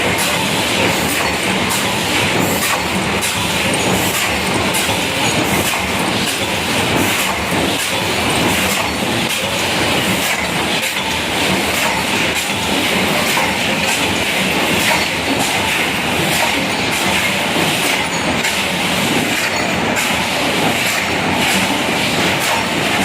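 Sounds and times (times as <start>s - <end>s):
machine clattering with knocks: 0.0s - 23.0s.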